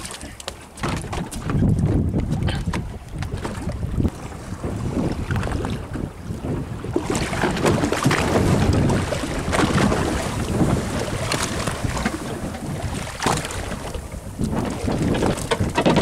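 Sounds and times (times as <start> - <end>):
water lapping against boat hull: 0.0 - 16.0
wind buffeting microphone: 0.0 - 16.0.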